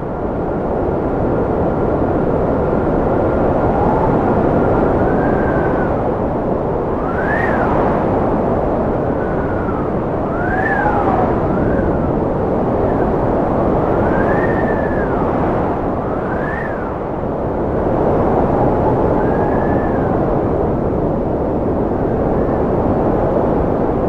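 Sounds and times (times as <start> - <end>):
strong wind howling: 0.0 - 24.0.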